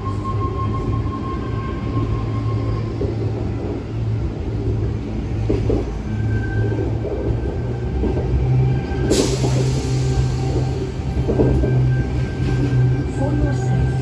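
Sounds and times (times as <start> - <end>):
electric train rumble and hum: 0.0 - 14.0.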